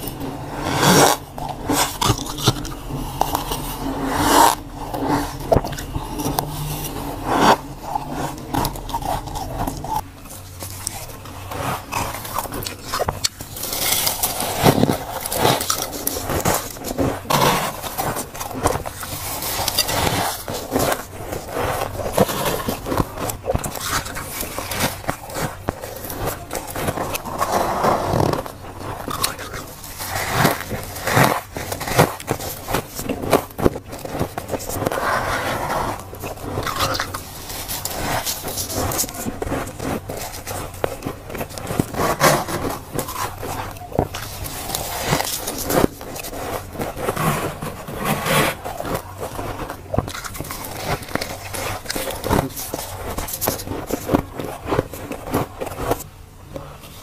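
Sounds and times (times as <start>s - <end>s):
frost being scraped and crunched: 0.0s - 57.0s.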